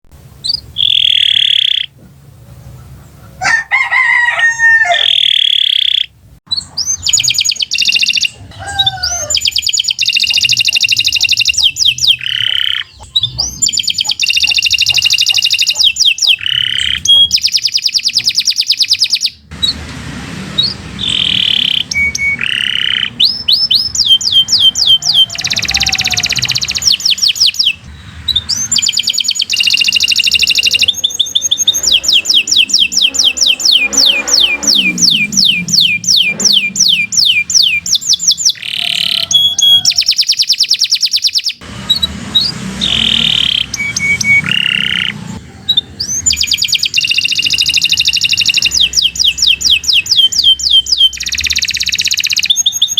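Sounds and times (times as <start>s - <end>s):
canary singing: 0.2s - 52.9s.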